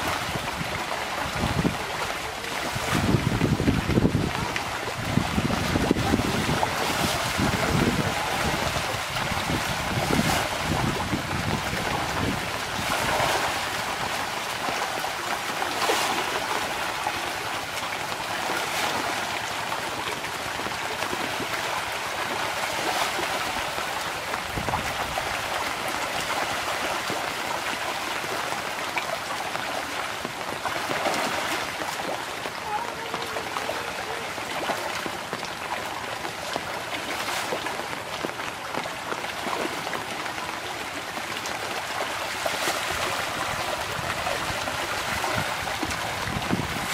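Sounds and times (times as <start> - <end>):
fish thrashing and splashing: 0.0 - 46.9.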